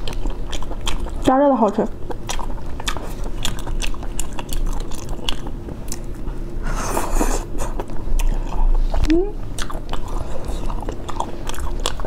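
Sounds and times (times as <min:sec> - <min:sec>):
wet chewing and lip smacks: 0:00.0 - 0:06.4, 0:07.6 - 0:12.0.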